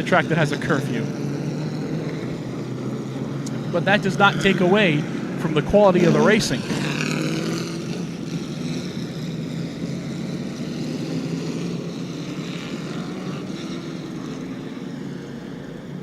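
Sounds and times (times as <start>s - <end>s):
race truck engines droning: 0.0s - 16.0s.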